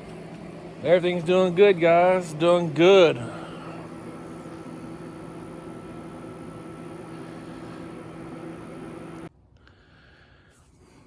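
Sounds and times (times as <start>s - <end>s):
vehicle engine running: 0.0s - 9.3s.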